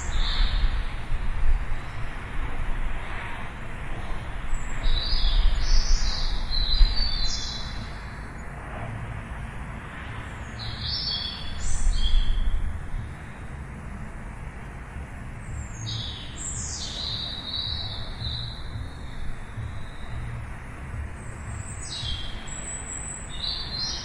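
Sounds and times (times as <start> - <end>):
songbirds chirping: 0.0 - 24.0
steady low rumble: 0.0 - 24.0.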